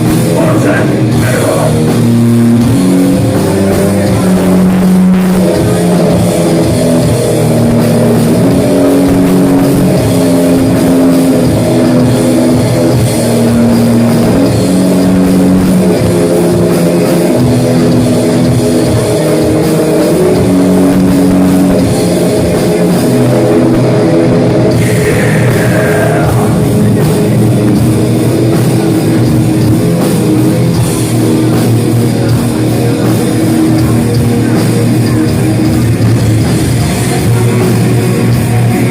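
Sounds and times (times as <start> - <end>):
heavy metal band playing: 0.0 - 38.9.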